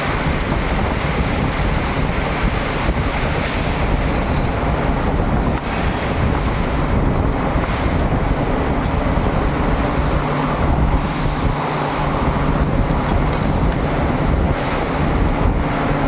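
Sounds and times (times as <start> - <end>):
crane engine rumbling: 0.0 - 16.0.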